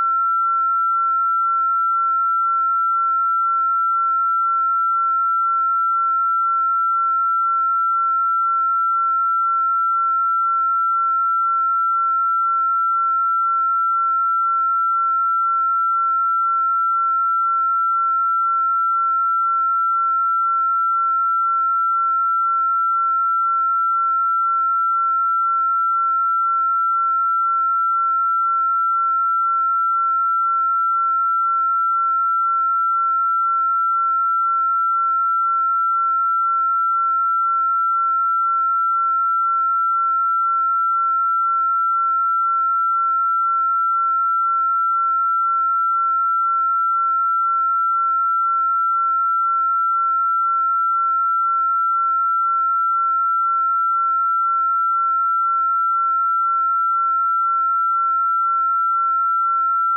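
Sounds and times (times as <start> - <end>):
high pure sine tone: 0.0 - 59.9.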